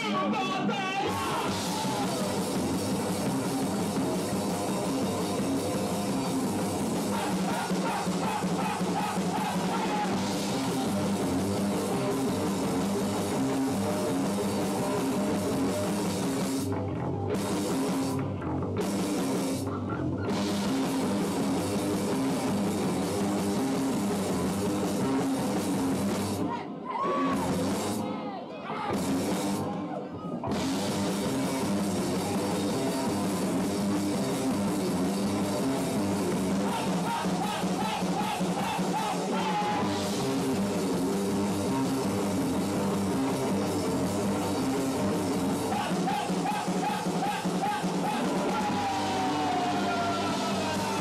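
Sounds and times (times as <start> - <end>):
rock band playing live: 0.0 - 26.5, 27.2 - 28.2, 28.9 - 51.0.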